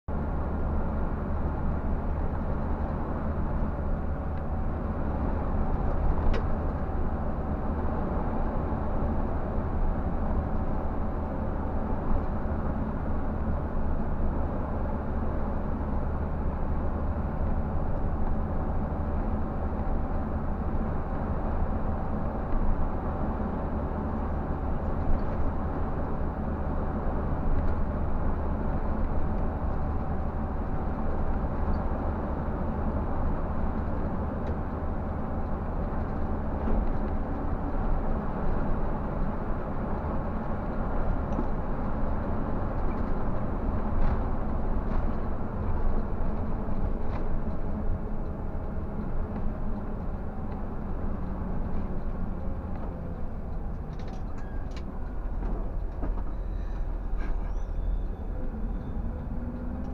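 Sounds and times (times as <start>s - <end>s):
coach diesel engine drone: 0.1s - 59.9s
tyre and road noise: 0.1s - 59.9s.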